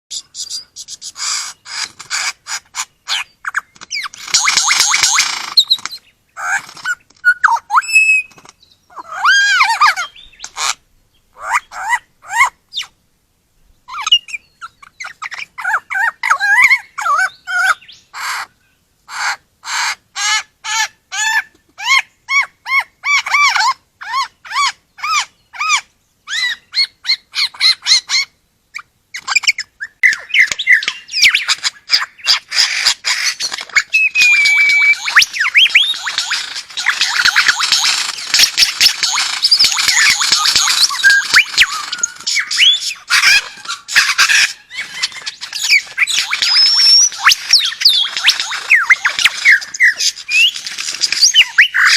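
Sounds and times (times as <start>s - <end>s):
bird calling harsh notes: 0.1s - 13.0s, 19.1s - 51.9s.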